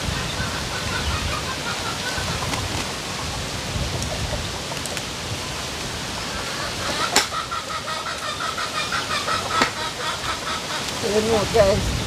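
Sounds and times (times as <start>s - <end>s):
bird calling: 0.0s - 4.9s, 5.5s - 12.0s.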